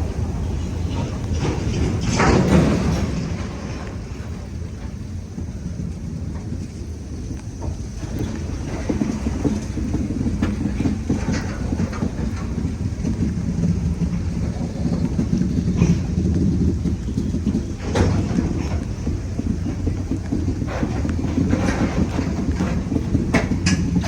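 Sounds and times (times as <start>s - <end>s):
freight train rumbling past: 0.0s - 24.0s
wheels clanking on track: 0.0s - 24.0s.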